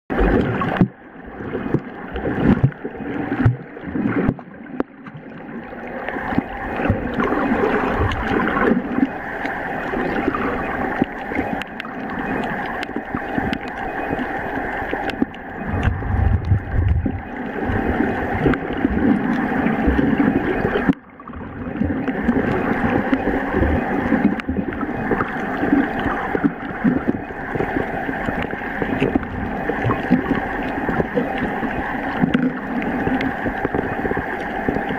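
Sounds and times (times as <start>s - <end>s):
underwater water rushing and gurgling: 0.1s - 34.9s
steady hum: 5.7s - 34.9s.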